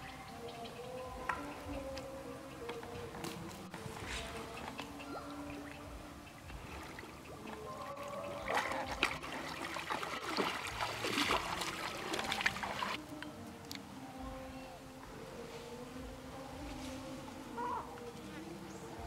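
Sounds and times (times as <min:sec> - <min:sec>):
faint steady drone: 0:00.0 - 0:19.0
water splashing around wading deer: 0:00.0 - 0:19.0.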